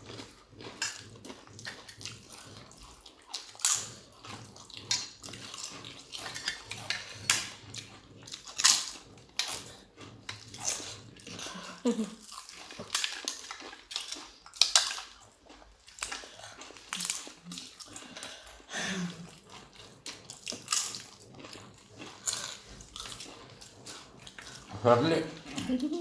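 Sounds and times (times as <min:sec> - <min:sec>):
people chewing and crunching: 0:00.0 - 0:26.0
wet mouth and hand noises: 0:00.0 - 0:26.0.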